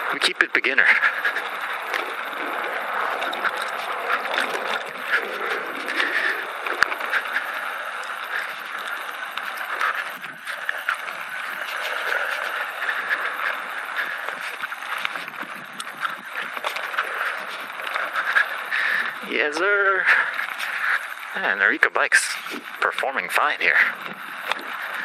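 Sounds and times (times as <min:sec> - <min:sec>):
bike clicks and rattles: 0:00.0 - 0:25.0
bike tyres on dirt and stones: 0:00.0 - 0:25.0.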